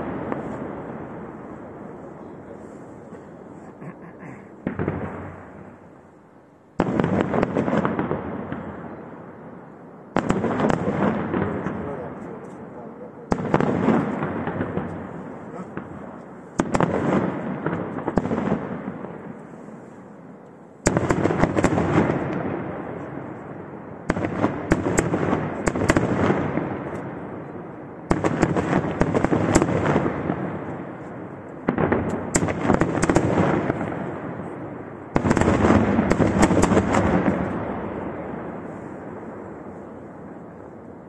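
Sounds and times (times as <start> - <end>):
firework crackle: 0.0 - 6.2, 6.8 - 41.0.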